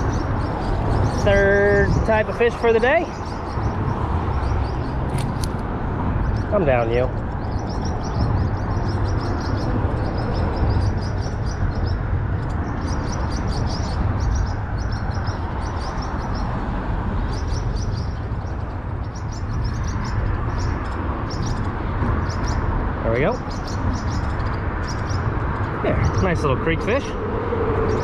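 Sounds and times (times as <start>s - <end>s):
bird chirping in high trills: 0.0s - 5.0s, 6.2s - 16.6s, 17.2s - 27.2s, 27.8s - 28.0s
highway traffic rumble: 0.0s - 28.0s.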